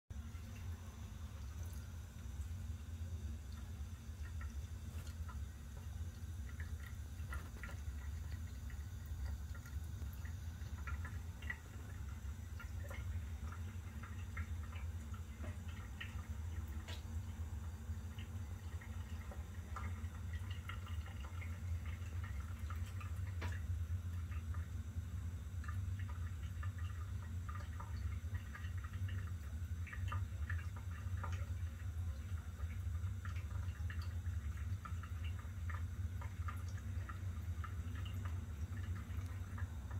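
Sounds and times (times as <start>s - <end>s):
small ticks and drips: 0.1s - 39.9s
tap water running into sink: 0.2s - 39.9s.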